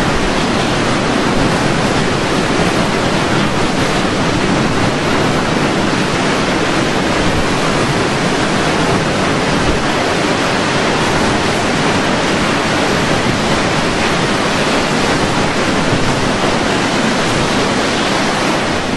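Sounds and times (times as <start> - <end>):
loud rushing wind: 0.0 - 18.9.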